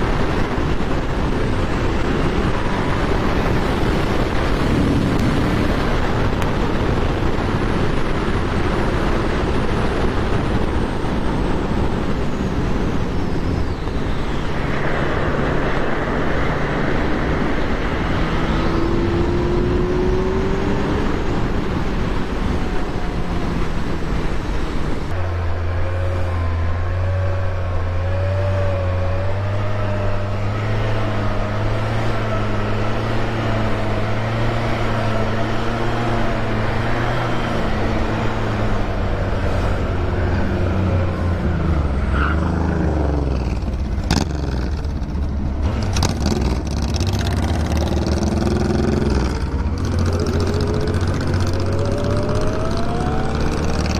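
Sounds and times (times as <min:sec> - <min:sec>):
motorcycle engine drone: 0:00.0 - 0:53.9
wind rush on microphone: 0:00.0 - 0:53.9.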